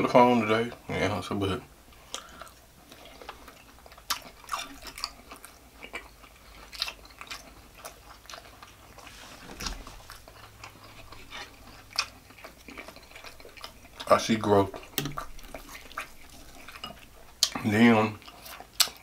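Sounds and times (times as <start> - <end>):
person chewing: 1.9 - 19.0.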